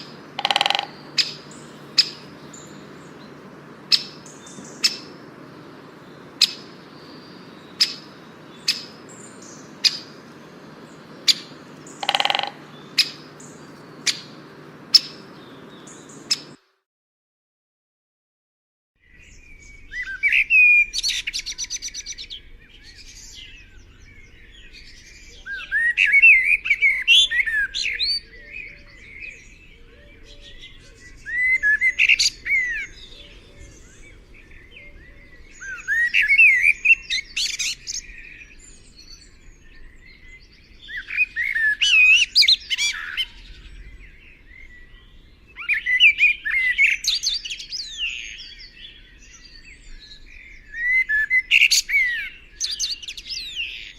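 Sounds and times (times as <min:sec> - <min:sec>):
songbird singing: 0:00.0 - 0:16.6, 0:19.0 - 0:53.9.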